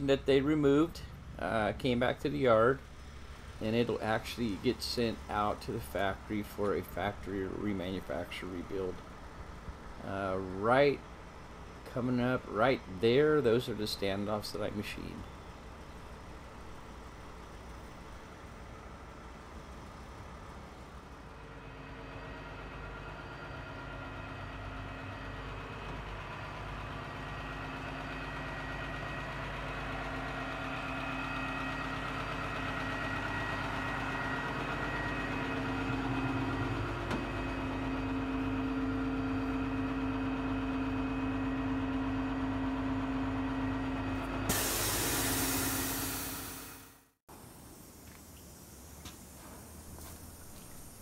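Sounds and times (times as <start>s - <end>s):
forklift engine idling: 0.0s - 47.0s.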